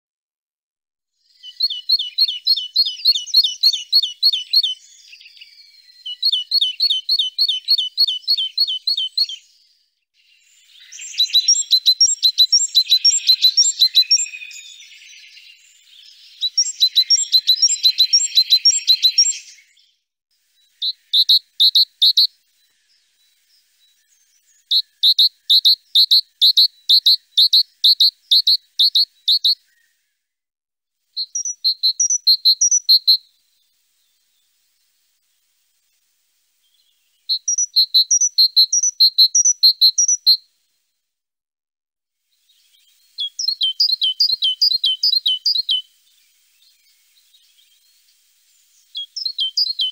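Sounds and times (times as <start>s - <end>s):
great tit singing: 1.2s - 19.9s, 20.5s - 30.0s, 31.2s - 34.4s, 36.7s - 40.4s, 42.4s - 49.9s.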